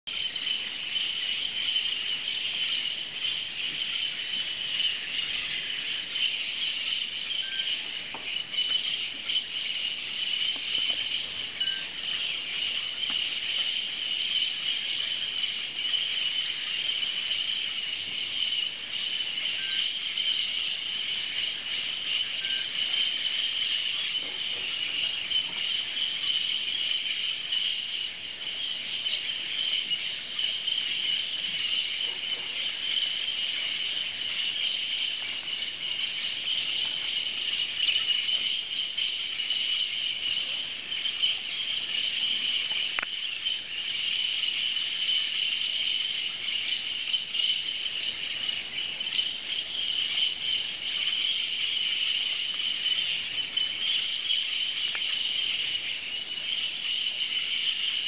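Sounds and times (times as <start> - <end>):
flock of parakeets chattering: 0.1 - 58.0.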